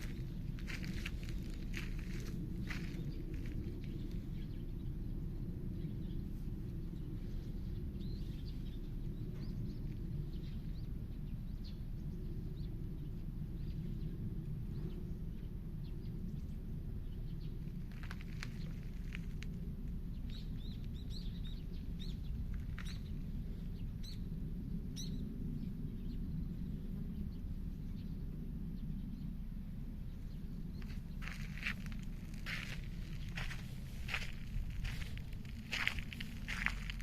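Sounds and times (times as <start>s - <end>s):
small birds chirping: 0.0s - 28.2s, 30.1s - 37.0s
steady low rumble: 0.0s - 37.0s.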